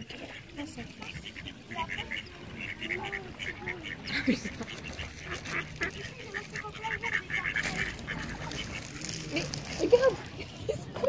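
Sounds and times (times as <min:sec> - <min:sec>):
ducks calling: 0:00.0 - 0:11.0.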